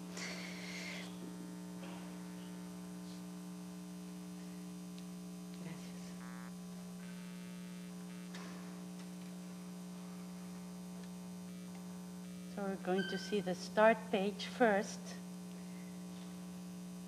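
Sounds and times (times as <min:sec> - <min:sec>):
mains hum: 0:00.0 - 0:17.0.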